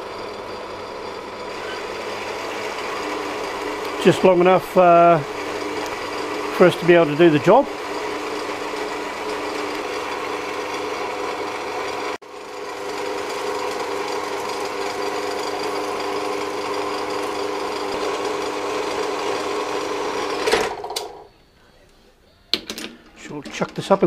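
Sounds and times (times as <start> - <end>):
bandsaw cutting metal bar: 0.0 - 21.1.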